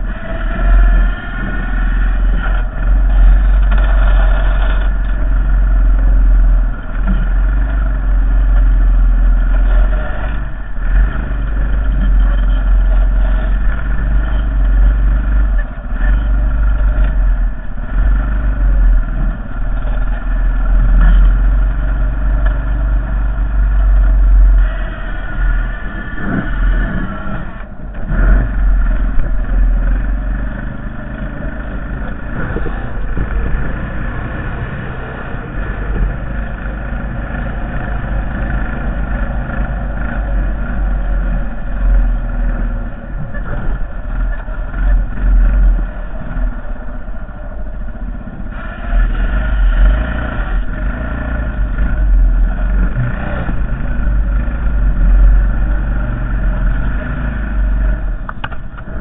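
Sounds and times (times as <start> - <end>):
atv engine under load: 0.0 - 59.0.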